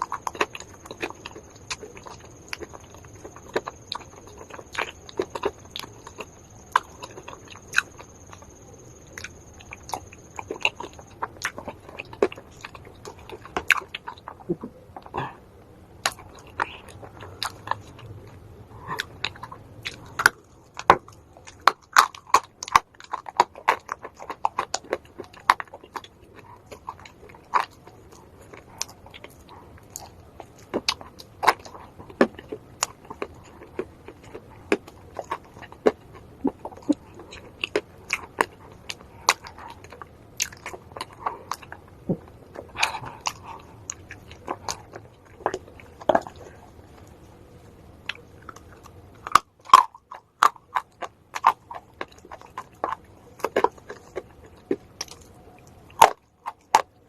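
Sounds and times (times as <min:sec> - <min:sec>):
chewing dry clay crunches: 0:00.0 - 0:57.0.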